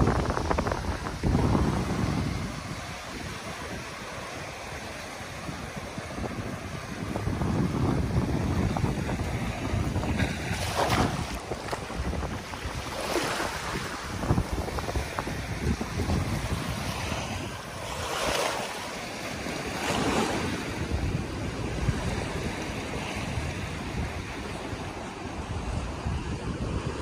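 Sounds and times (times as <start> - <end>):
small waves washing on shore: 0.0 - 27.0
wind buffeting microphone: 0.0 - 27.0.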